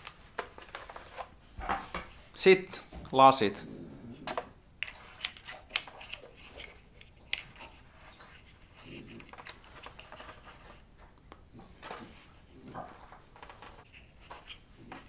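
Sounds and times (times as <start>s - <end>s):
handling rustle: 0.0s - 3.0s, 4.8s - 15.0s.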